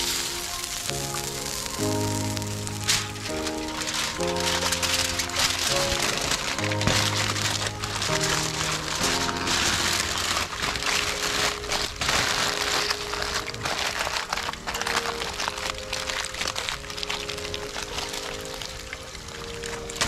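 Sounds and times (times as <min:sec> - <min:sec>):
aluminium foil crinkling: 0:00.0 - 0:20.0
music of held notes: 0:00.0 - 0:20.0.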